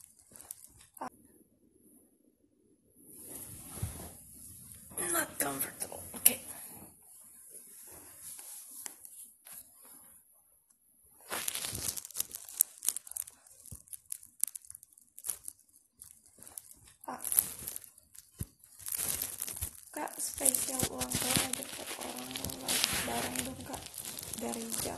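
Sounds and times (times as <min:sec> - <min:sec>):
rustling and crinkling: 0:00.0 - 0:01.1, 0:03.1 - 0:10.3, 0:11.1 - 0:24.9.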